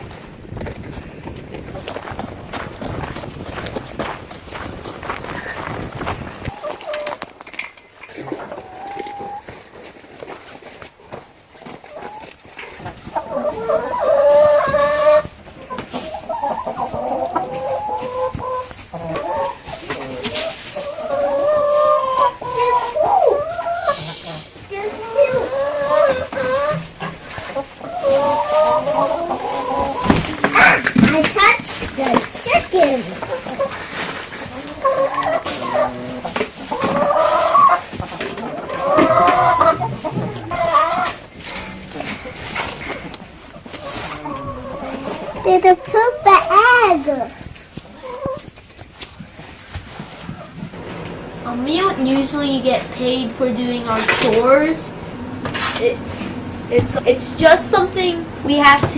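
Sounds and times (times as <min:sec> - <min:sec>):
chickens clucking and squawking: 0:00.0 - 0:58.9.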